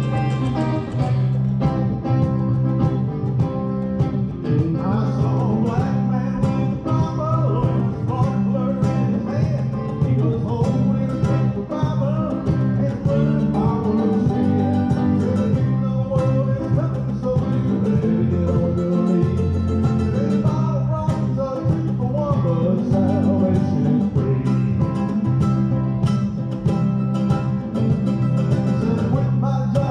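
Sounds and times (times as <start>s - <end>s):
bluegrass band playing: 0.0s - 29.9s
guitar: 0.0s - 29.9s
mandolin: 0.0s - 29.9s.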